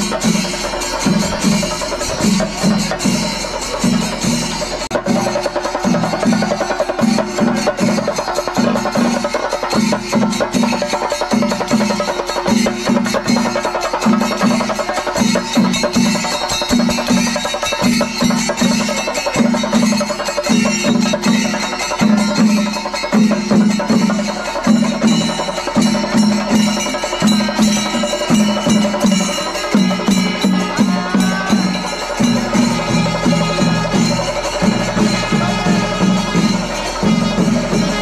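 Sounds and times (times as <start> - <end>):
cymbal ringing: 0.0 - 38.0
fast drum strokes: 0.0 - 38.0
low booming drum: 0.0 - 38.0.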